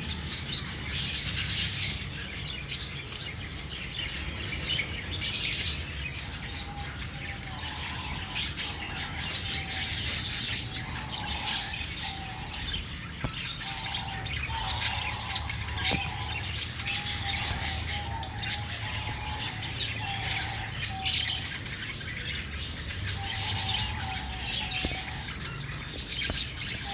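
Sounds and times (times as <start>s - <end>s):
parrots chirping and chattering: 0.0s - 26.9s.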